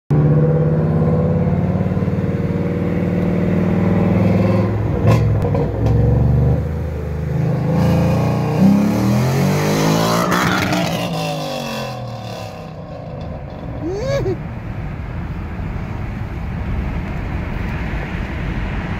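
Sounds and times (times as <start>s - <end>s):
car exhaust roaring: 0.1s - 18.9s.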